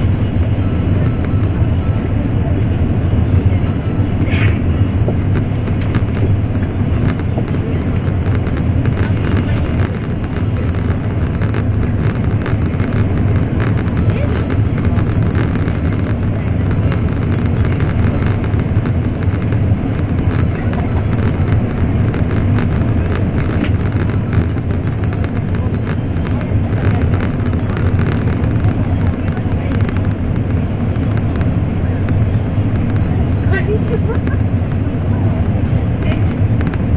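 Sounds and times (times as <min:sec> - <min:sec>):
train cabin rumble: 0:00.0 - 0:36.9.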